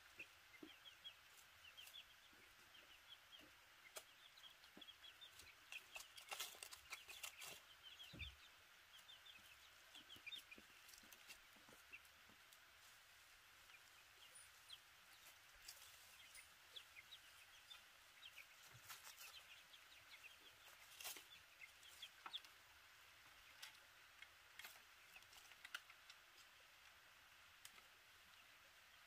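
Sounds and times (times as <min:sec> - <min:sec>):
chicken clucking: 0:00.0 - 0:26.6.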